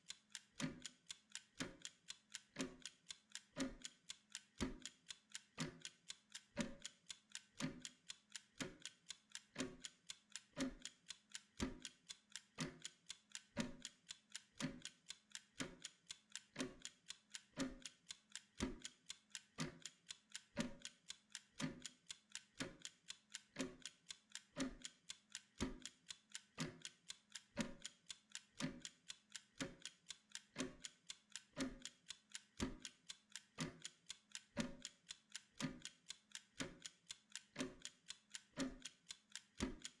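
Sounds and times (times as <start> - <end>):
kitchen timer ticking: 0.0 - 40.0.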